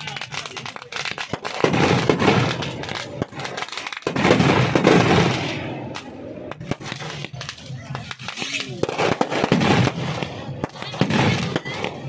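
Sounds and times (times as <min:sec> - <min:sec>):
firecrackers crackling and popping: 0:00.0 - 0:12.0.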